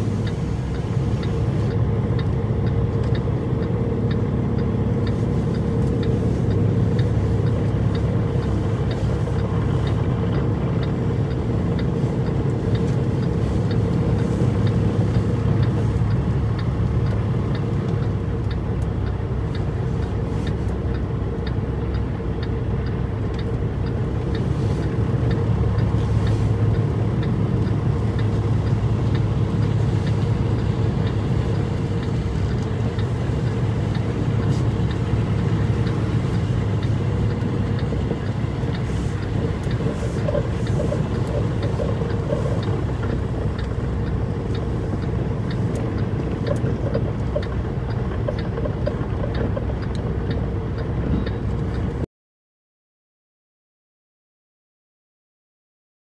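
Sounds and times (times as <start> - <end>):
faint regular ticking: 0.0 - 52.0
truck engine running: 0.0 - 52.0.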